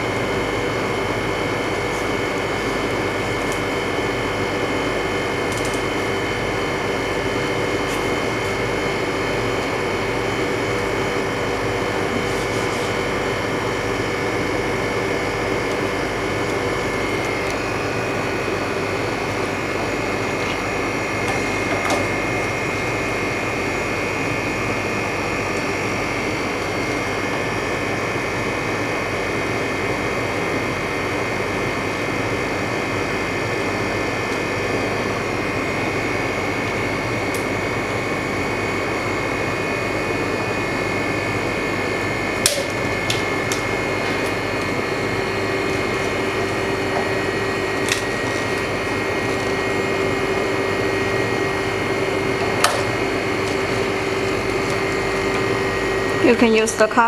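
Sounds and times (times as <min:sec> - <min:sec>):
freezer machine humming: 0:00.0 - 0:57.0
high whine: 0:00.0 - 0:57.0.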